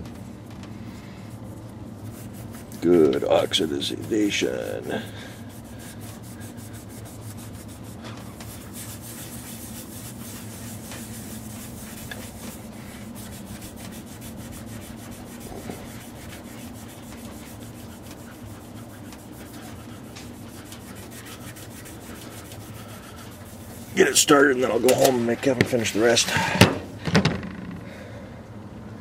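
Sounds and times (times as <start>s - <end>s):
hand scrubbing metal rasping: 2.0s - 26.8s.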